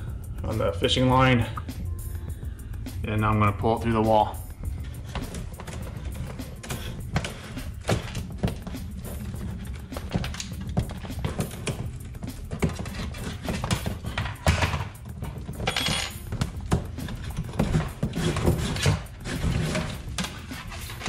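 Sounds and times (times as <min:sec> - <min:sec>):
background music: 0:00.0 - 0:21.0
cable rustling and scraping: 0:03.8 - 0:21.0.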